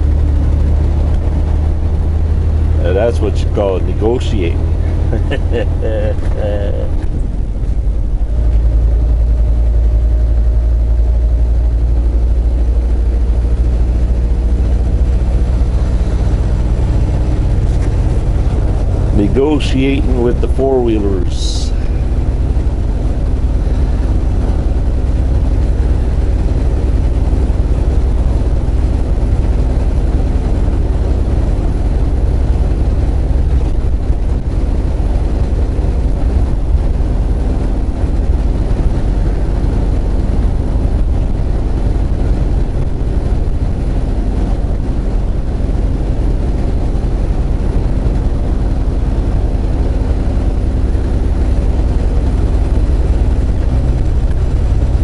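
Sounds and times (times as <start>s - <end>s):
truck diesel engine hum: 0.0s - 55.0s.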